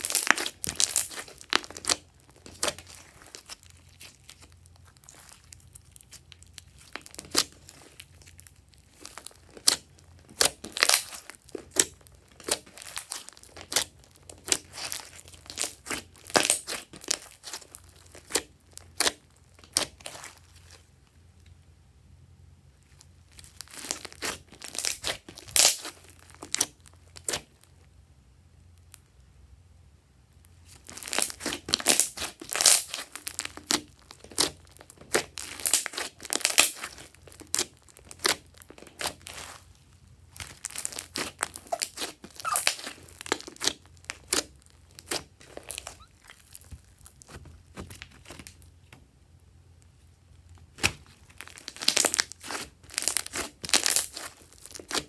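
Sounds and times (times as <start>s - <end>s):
wet crackling and popping: 0.0s - 20.9s, 22.9s - 27.6s, 30.7s - 49.0s, 49.8s - 55.0s
hands squishing slime: 0.0s - 21.0s, 23.2s - 27.6s, 30.7s - 48.9s, 50.4s - 55.0s.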